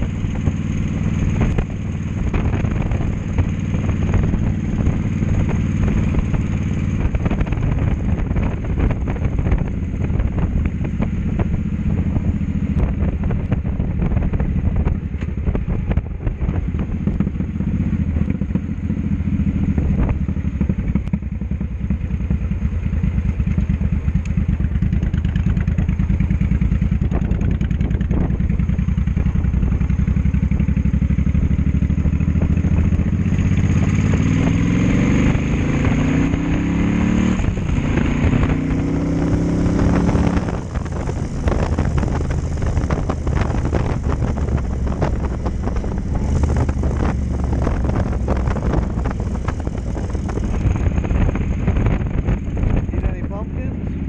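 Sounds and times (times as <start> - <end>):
wind buffeting the microphone: 0.0 - 22.5, 23.7 - 54.0
motorcycle engine running: 0.0 - 54.0.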